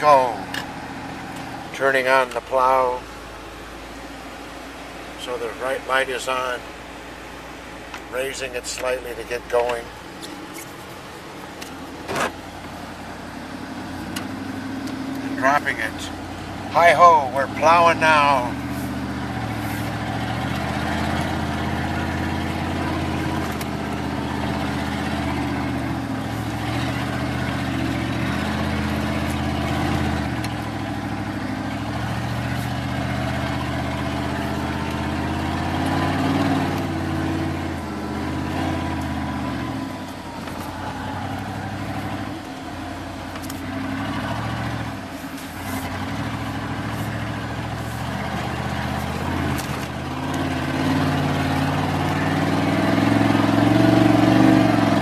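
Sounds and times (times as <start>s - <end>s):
truck engine running under load: 0.0s - 55.0s.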